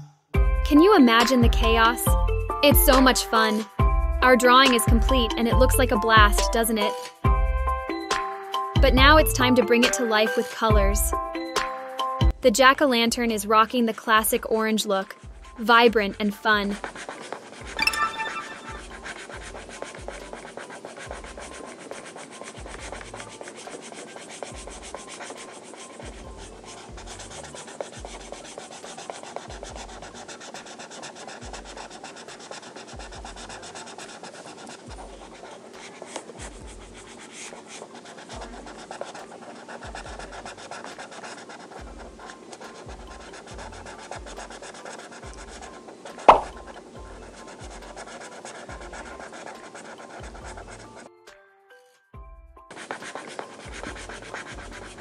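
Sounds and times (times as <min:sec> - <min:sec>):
marker scratching on paper: 0:00.7 - 0:07.3, 0:08.1 - 0:11.7, 0:12.6 - 0:51.1, 0:52.7 - 0:55.0.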